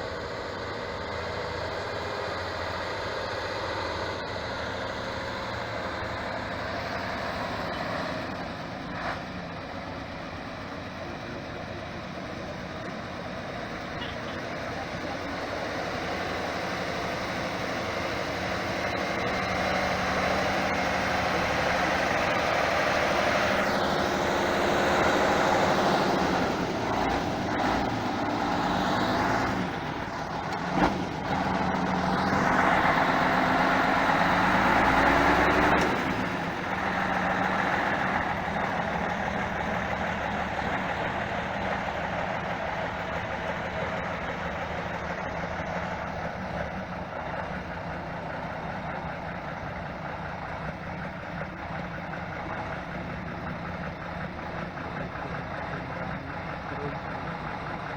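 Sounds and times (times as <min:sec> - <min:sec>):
diesel engine revving: 0:00.0 - 0:57.9.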